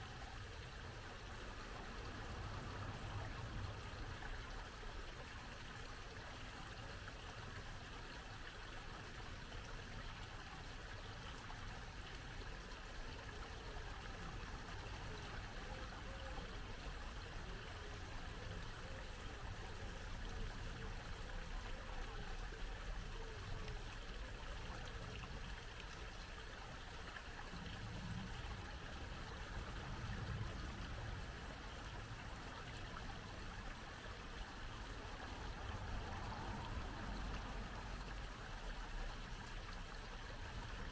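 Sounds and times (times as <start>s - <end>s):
brook water trickling over stones: 0.0s - 40.9s.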